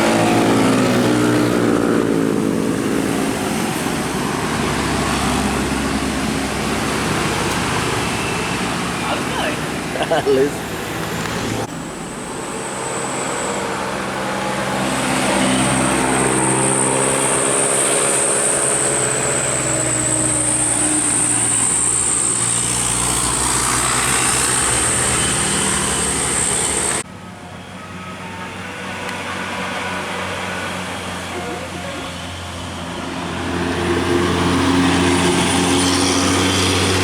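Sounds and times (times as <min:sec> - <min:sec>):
bus engine whine: 0:00.0 - 0:37.0.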